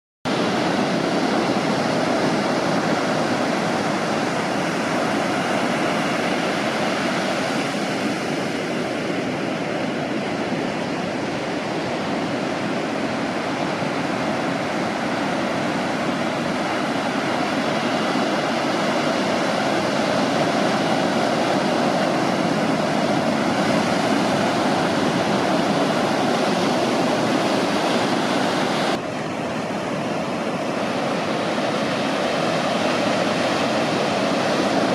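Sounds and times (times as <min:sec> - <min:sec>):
ocean waves breaking: 0:00.3 - 0:34.9.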